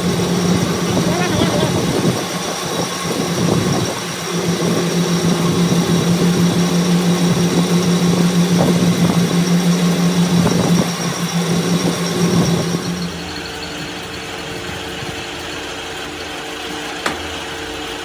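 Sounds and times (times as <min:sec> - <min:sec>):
machine motor humming with whine: 0:00.0 - 0:18.0.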